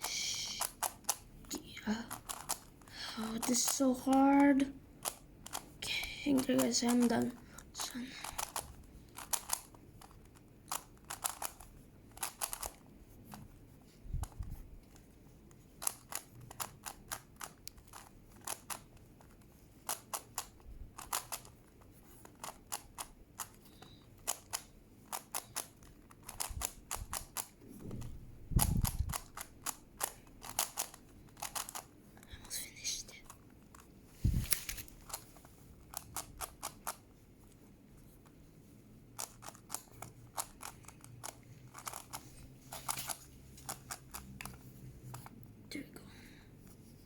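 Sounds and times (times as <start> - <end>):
puzzle cube faces clicking: 0.0 - 38.4, 39.1 - 45.5.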